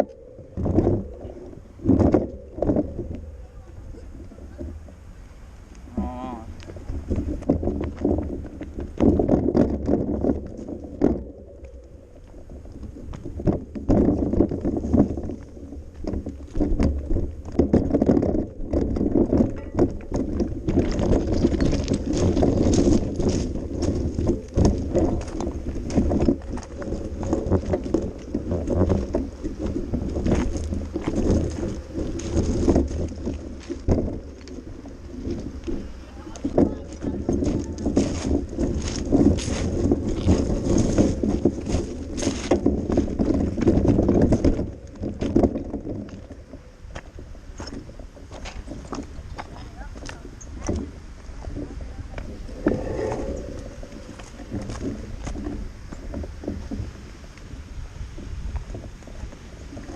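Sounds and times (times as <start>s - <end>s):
small rattles and knocks: 0.0s - 5.1s, 5.9s - 57.2s
bicycle rolling over dirt path: 0.0s - 59.9s.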